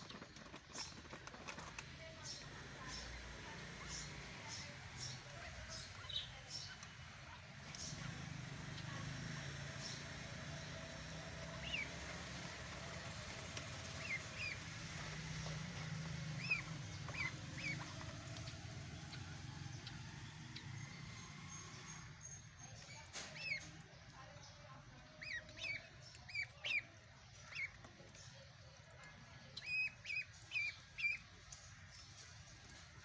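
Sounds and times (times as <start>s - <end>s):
duckling peeping: 2.2s - 24.2s, 25.1s - 32.4s.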